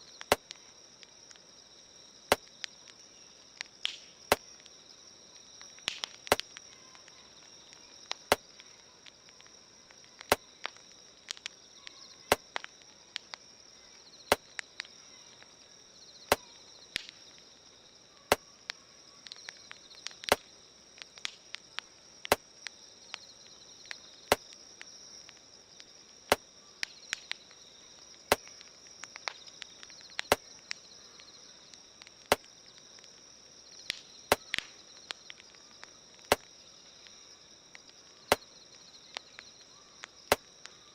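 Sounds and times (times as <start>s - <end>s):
campfire crackling and popping: 0.0s - 40.9s
insects chirring: 0.0s - 40.9s.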